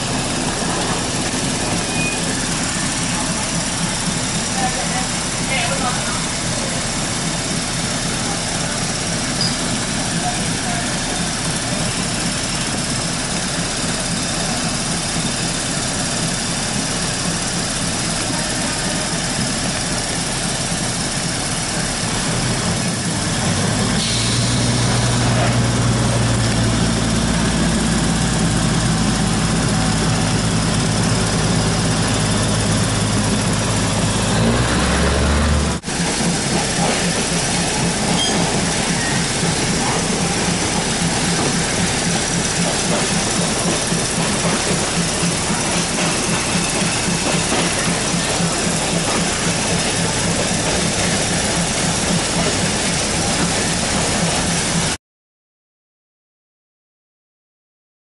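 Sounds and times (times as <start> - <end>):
train rumble inside carriage: 0.0 - 55.0.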